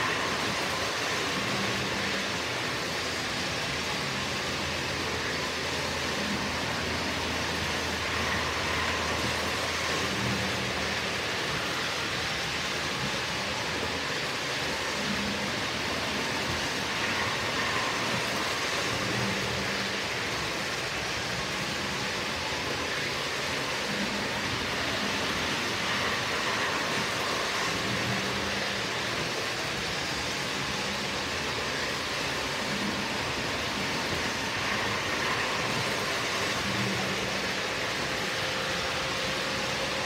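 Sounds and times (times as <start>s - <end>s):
model train wheels rolling on track: 0.0s - 40.0s.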